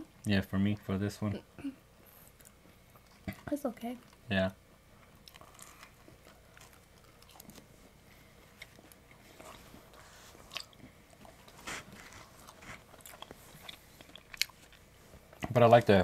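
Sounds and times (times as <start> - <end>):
people chewing food: 0.0 - 16.0.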